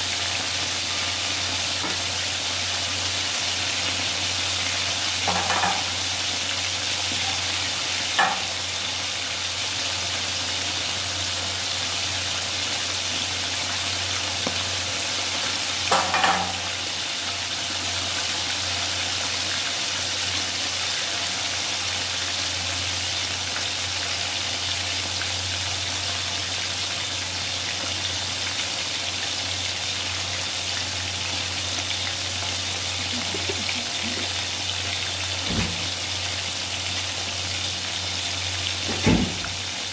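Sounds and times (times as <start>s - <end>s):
oil sizzling in deep frying: 0.0s - 39.9s.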